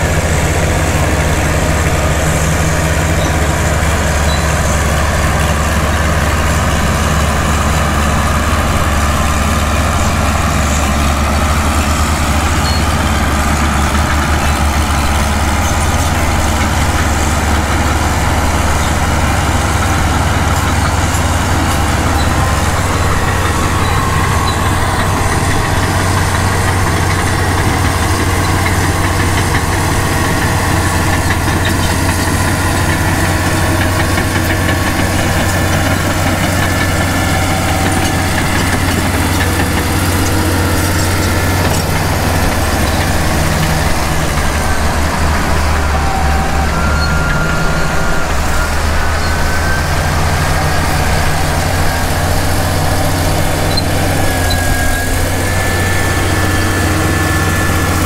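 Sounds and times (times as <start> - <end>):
diesel bulldozer engines running: 0.0 - 58.0.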